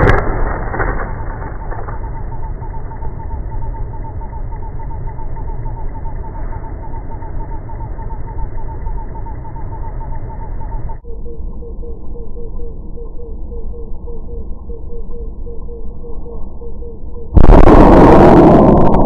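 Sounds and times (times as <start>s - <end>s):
low outdoor rumble: 0.0s - 19.0s
fast repeating chirp: 1.2s - 17.4s.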